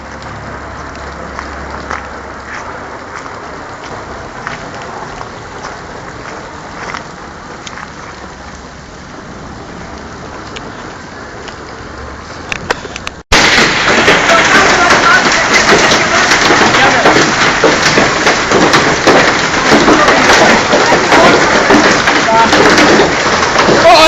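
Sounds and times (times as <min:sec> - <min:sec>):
hailstones clicking: 0:00.0 - 0:24.0
heavy rain hissing: 0:00.3 - 0:24.0.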